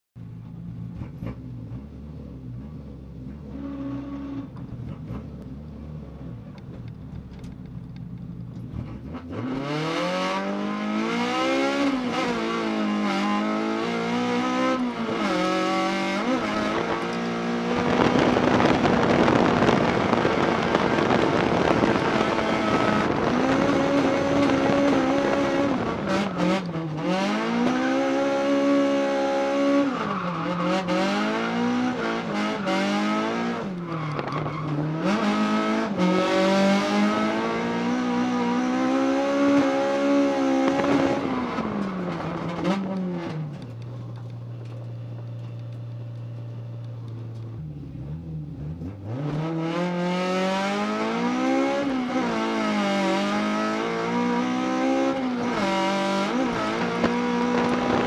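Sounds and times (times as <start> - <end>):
car engine revving: 0.7 - 58.0.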